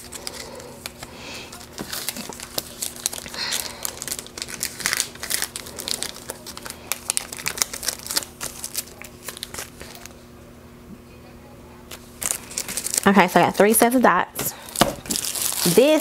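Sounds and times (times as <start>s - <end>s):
plastic packaging crinkling: 0.0s - 10.2s, 11.9s - 16.0s.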